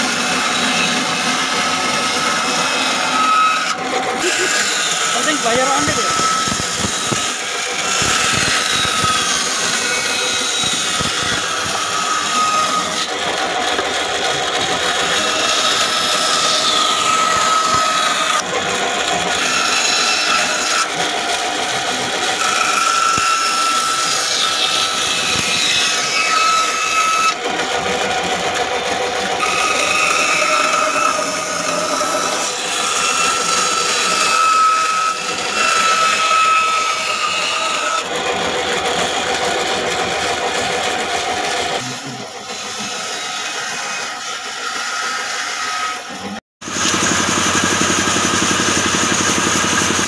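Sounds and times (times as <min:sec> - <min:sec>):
band saw cutting wood: 0:00.0 - 0:50.0.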